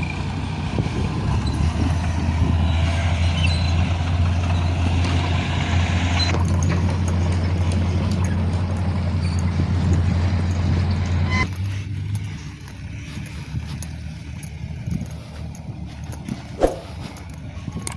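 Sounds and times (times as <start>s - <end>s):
diesel truck engine running: 0.0s - 17.9s.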